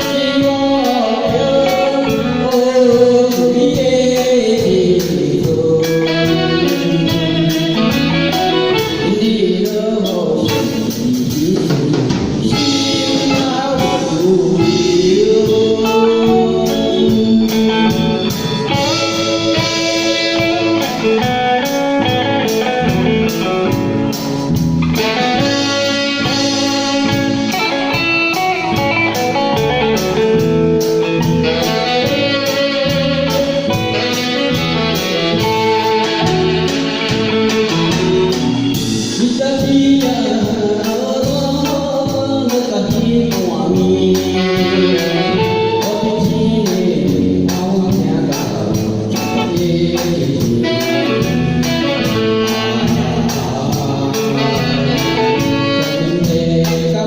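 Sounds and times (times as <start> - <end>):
drum kit beat: 0.0 - 57.0
guitar: 0.0 - 57.0
person singing: 0.0 - 57.0.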